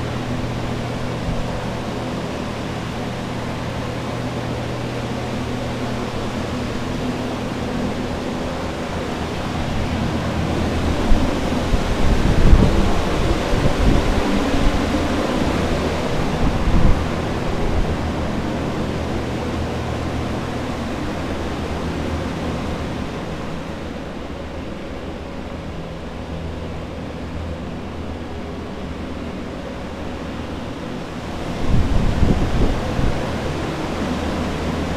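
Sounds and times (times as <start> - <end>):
low hum: 0.0 - 34.9.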